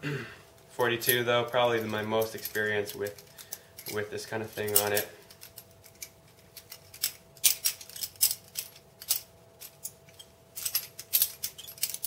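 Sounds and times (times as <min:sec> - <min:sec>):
knife clicking and clattering: 0:01.1 - 0:12.0.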